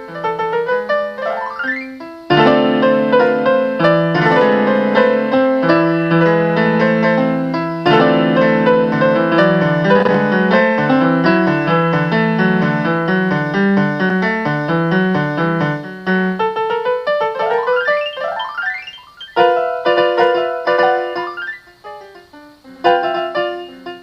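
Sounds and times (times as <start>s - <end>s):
piano piece: 0.0s - 24.0s.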